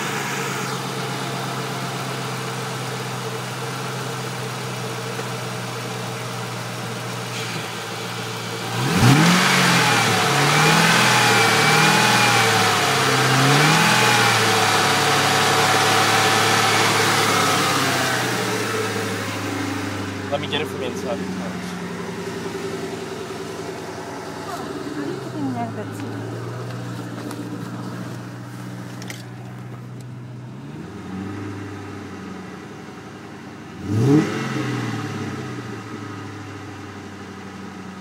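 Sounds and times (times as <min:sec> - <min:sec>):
car engine idling and revving: 0:00.0 - 0:38.0.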